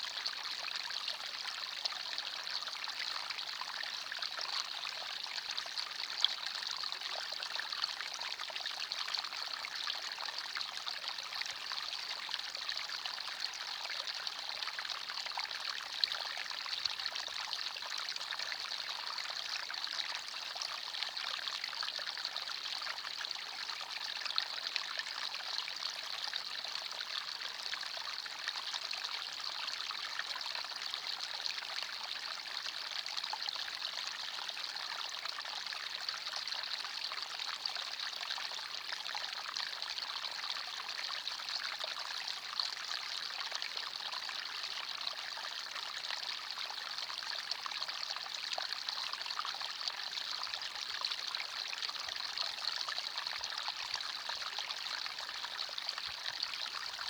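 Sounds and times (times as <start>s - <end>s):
stream trickling over stones: 0.4s - 57.0s.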